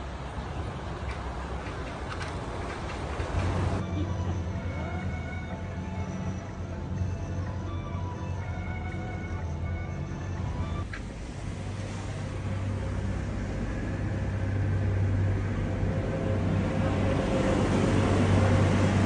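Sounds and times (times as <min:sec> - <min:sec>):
vehicle hum and rumble: 0:00.0 - 0:19.0.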